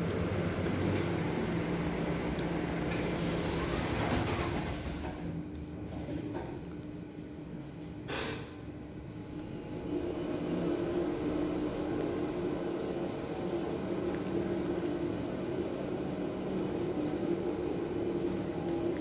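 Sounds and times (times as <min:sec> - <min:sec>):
elevator humming: 0:00.0 - 0:05.5, 0:08.7 - 0:19.0.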